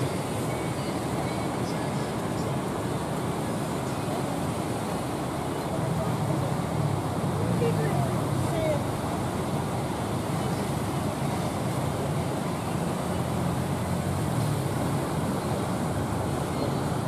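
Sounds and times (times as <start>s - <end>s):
boat engine: 0.0s - 17.0s.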